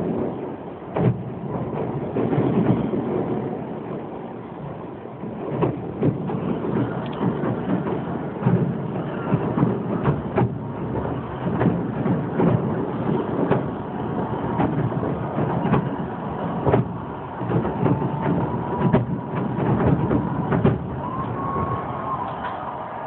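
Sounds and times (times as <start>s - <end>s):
rumble of firework bursts: 0.0s - 23.0s.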